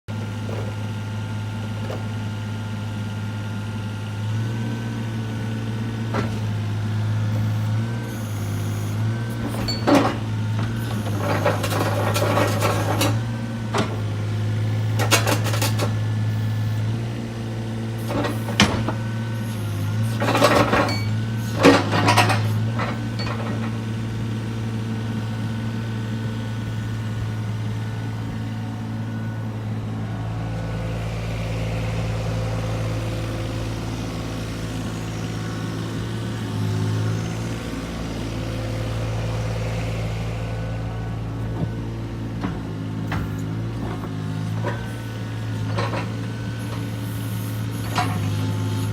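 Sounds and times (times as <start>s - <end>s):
diesel engine running: 0.1s - 48.9s.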